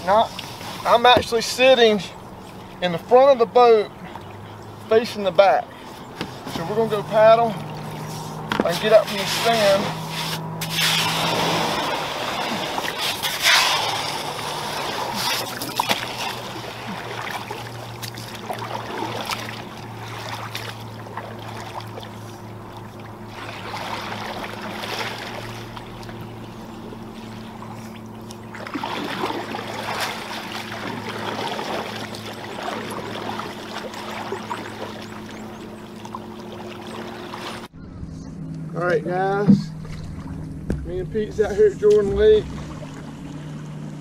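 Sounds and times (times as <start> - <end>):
canoe paddling: 0.0 - 44.0
lake water splashing and lapping: 0.0 - 44.0
steady low hum: 0.0 - 44.0.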